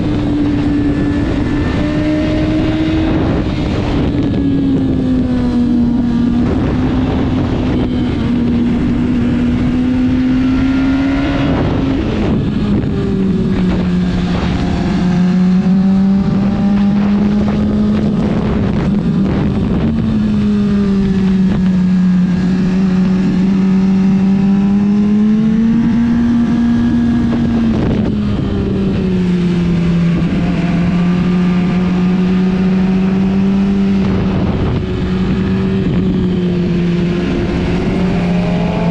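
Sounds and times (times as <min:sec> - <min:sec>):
motorcycle engine at high revs: 0:00.0 - 0:38.9
wind rush: 0:00.0 - 0:38.9.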